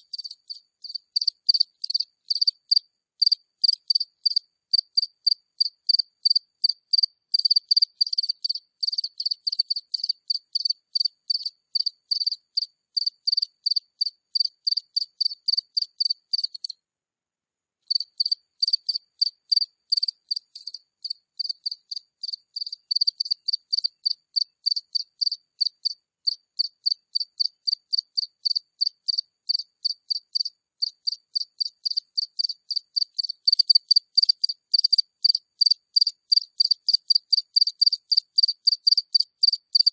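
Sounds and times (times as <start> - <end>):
cricket chirping: 0.0 - 16.8, 17.8 - 39.9.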